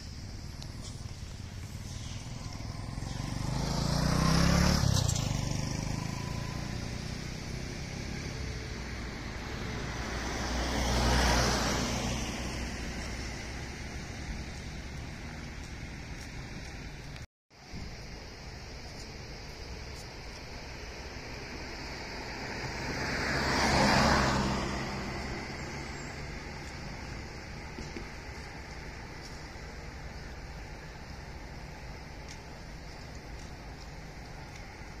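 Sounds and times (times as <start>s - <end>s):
vehicles passing: 0.0s - 17.3s, 17.9s - 35.0s.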